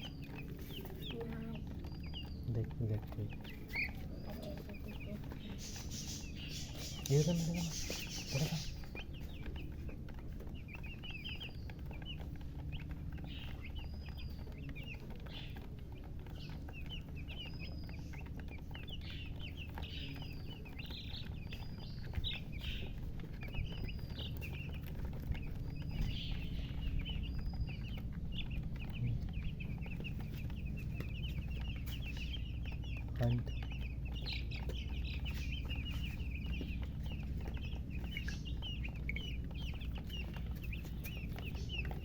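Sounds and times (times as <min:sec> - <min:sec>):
chicks peeping: 0:00.0 - 0:42.0.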